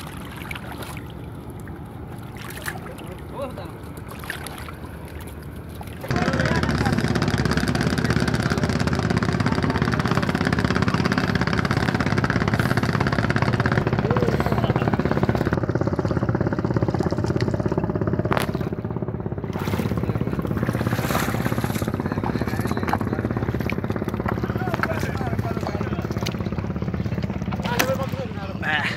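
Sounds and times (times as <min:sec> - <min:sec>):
motor running: 0:00.8 - 0:28.9.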